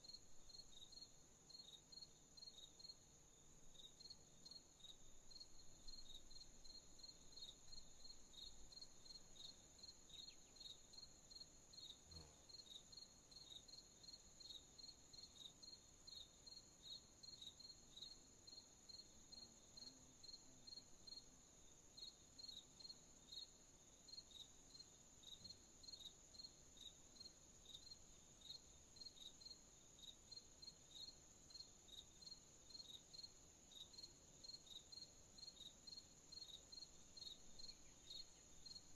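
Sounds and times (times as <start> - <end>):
cricket chirps: 0.0 - 38.9.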